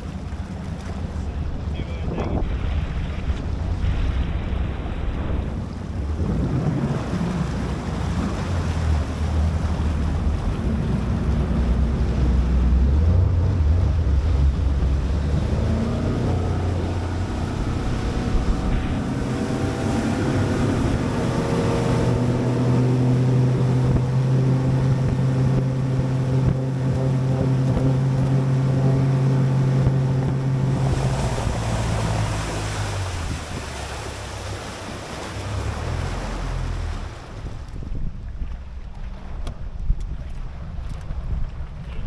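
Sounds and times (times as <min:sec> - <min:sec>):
outboard motor running: 0:00.0 - 0:42.0
water rushing past hull: 0:00.0 - 0:42.0
wind buffeting microphone: 0:00.0 - 0:42.0.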